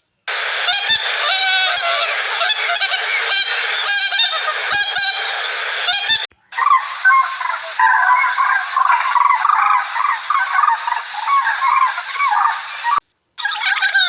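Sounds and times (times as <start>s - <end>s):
bird calling: 0.3s - 14.0s
flock of birds honking: 0.5s - 13.0s.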